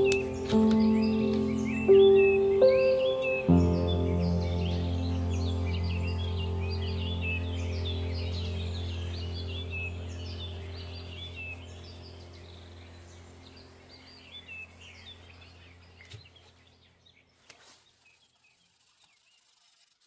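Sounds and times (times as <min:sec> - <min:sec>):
steady low drone: 0:00.0 - 0:16.1
small birds chirping: 0:00.0 - 0:20.0.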